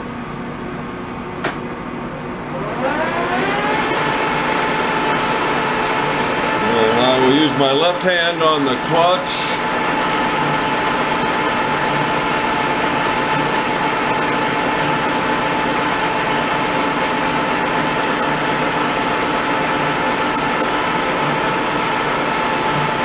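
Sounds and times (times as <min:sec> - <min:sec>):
lathe whining: 0:01.4 - 0:23.0.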